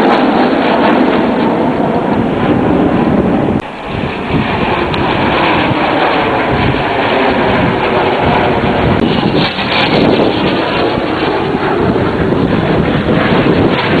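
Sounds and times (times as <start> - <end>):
aircraft engine noise: 0.0 - 14.0
wind buffeting microphone: 0.0 - 14.0.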